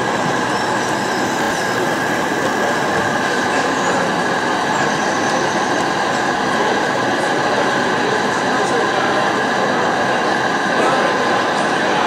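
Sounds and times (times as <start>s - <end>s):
model train wheels on rails: 0.0s - 12.0s.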